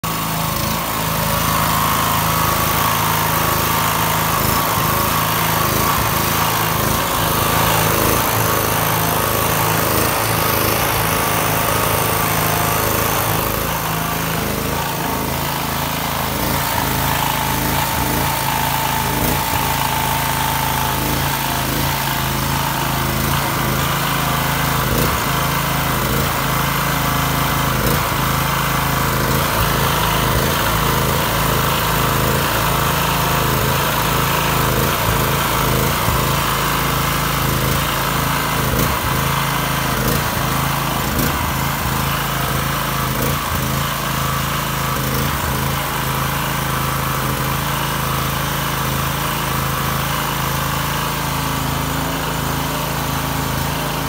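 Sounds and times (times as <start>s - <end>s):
generator engine running: 0.0s - 54.0s.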